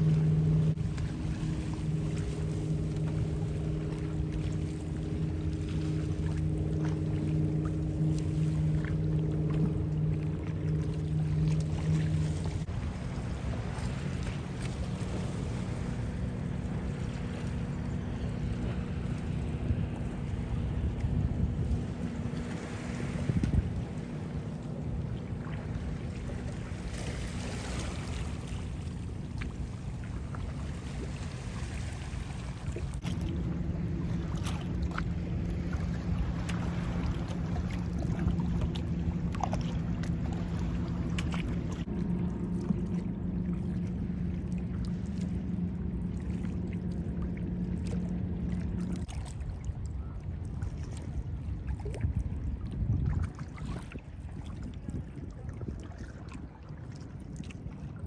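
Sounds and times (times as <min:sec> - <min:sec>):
paddle strokes: 0:00.0 - 0:49.8
steady low hum: 0:00.0 - 0:58.0
water lapping against hull: 0:00.0 - 0:58.0.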